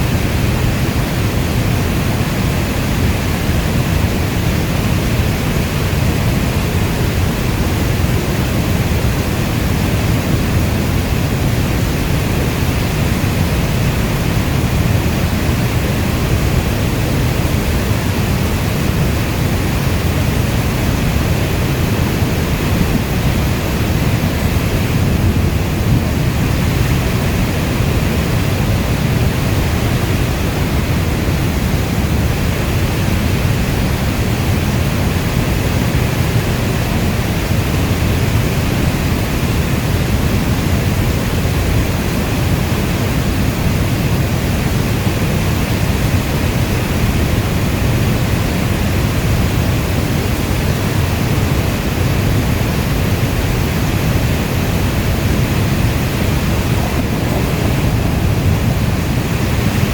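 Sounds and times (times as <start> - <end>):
heavy rain falling: 3.8 - 59.9.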